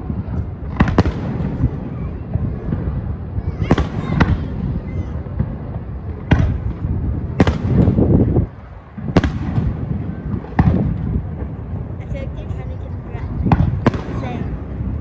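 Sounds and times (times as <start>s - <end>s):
fireworks bursting: 0.0s - 15.0s
low rumble: 0.0s - 15.0s.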